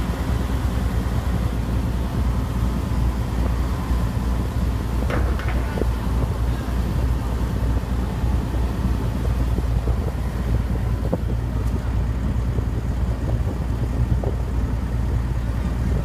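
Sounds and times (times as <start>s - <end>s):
crane diesel engine rumbling: 0.0s - 16.0s.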